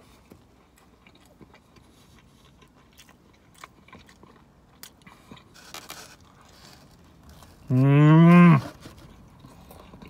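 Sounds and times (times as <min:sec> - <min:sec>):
person chewing soft food: 0:00.0 - 0:10.0.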